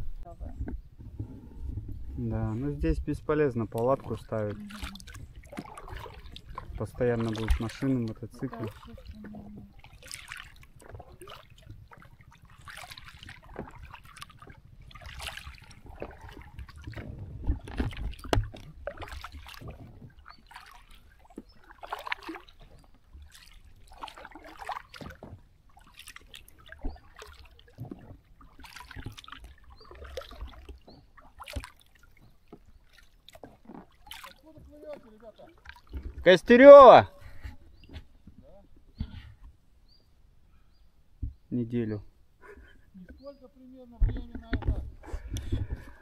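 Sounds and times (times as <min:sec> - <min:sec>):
paddles splashing through water: 0:00.0 - 0:46.0.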